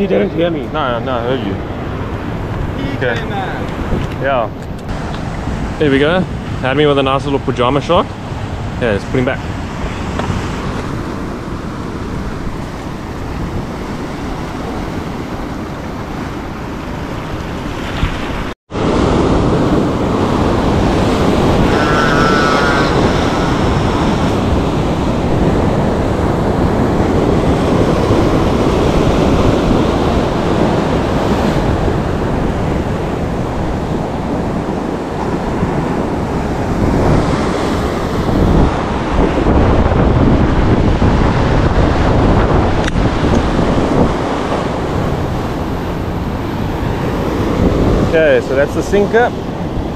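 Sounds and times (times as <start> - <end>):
sea surf against rocks: 0.0 - 49.9
wind buffeting microphone: 0.0 - 49.9.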